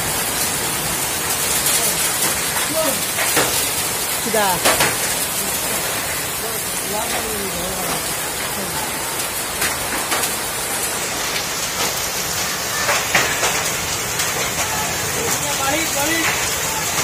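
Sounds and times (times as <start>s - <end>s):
hailstones knocking: 0.0s - 17.0s
heavy rain hiss: 0.0s - 17.0s.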